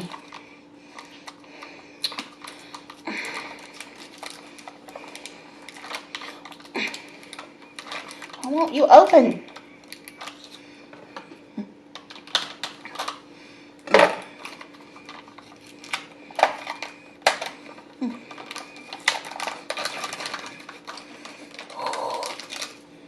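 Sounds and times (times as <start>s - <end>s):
packaging rustling crinkle: 0.0s - 13.4s, 14.0s - 23.0s.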